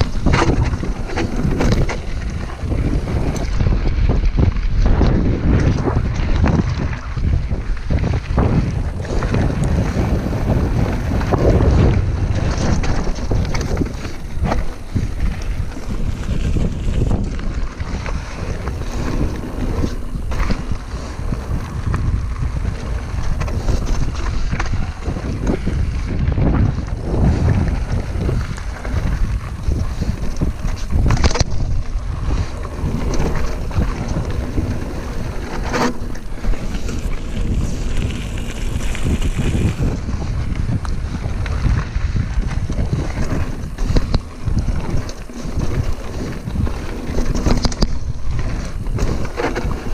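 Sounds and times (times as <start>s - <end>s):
bike rattling: 0.0s - 49.9s
bike tyres on gravel: 0.0s - 49.9s
wind buffeting microphone: 0.0s - 49.9s.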